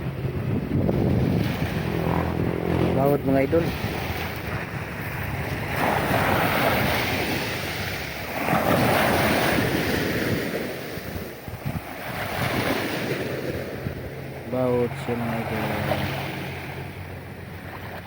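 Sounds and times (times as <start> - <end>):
sea waves: 0.0 - 18.0
wind buffeting microphone: 0.0 - 18.0.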